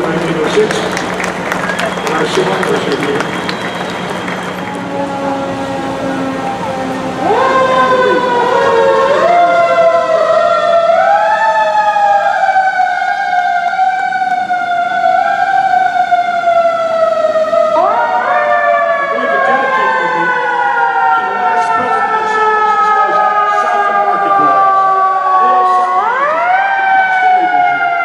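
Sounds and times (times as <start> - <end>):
fire engine sirens wailing: 0.0 - 28.0.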